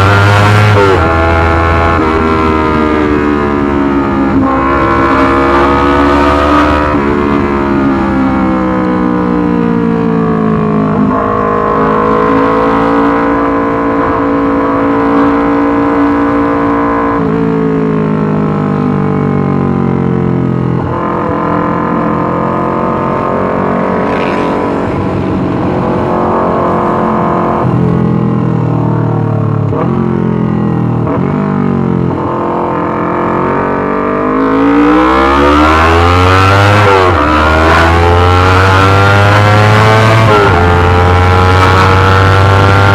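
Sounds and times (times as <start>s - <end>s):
motorcycle engine running loudly: 0.0s - 42.9s.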